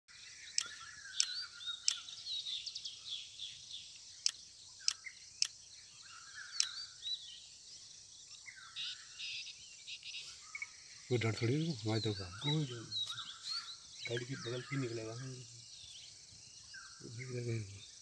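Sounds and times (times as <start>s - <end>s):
birds chirping and whistling: 0.1s - 18.0s
high insect hiss: 0.1s - 18.0s.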